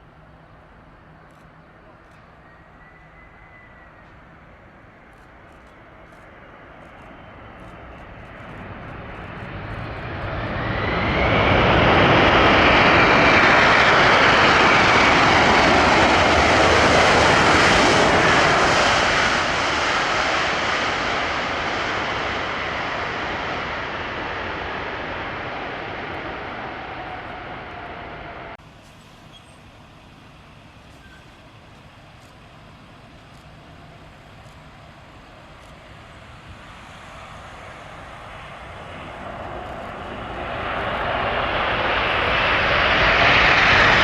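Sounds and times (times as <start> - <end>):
jet engines roaring and whining: 0.0 - 44.0.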